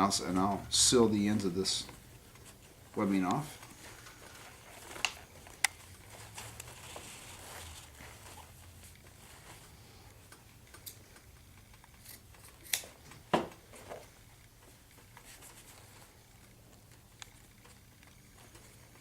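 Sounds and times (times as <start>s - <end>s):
faint clicks and handling noises: 0.0s - 19.0s.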